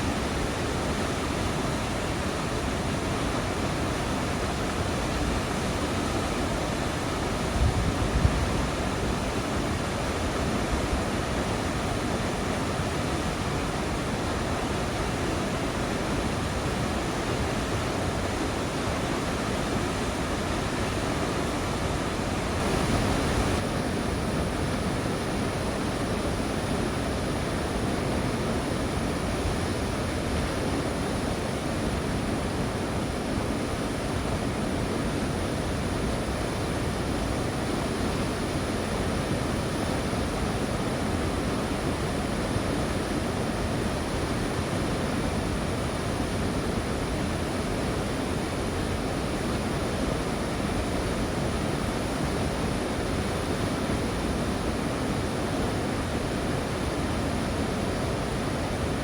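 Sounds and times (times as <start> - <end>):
steady rushing outdoor noise: 0.0 - 59.0.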